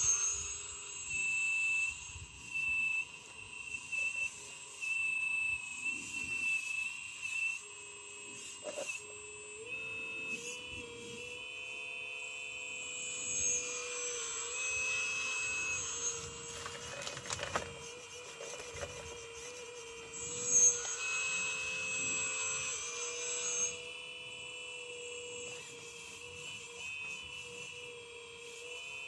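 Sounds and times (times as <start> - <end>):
earthmoving machine whine: 0.0 - 29.0.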